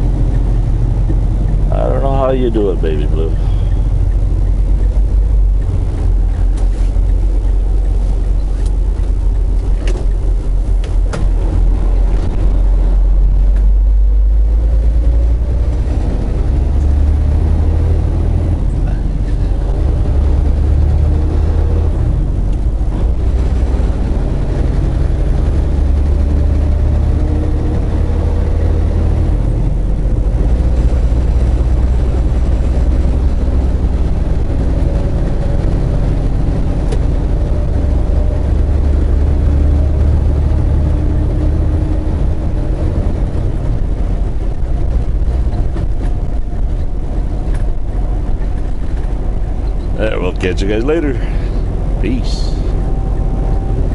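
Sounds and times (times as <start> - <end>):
truck engine drone: 0.0 - 53.9.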